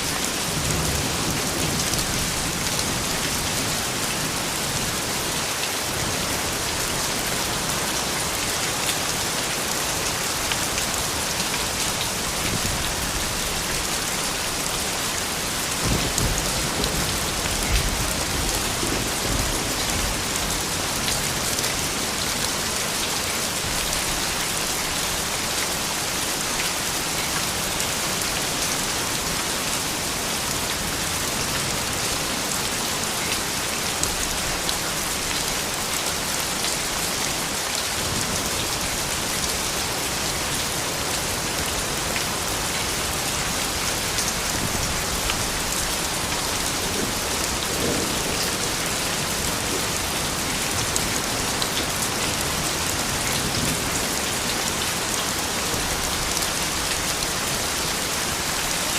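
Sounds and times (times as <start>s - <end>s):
rain hissing on surfaces: 0.0s - 58.9s.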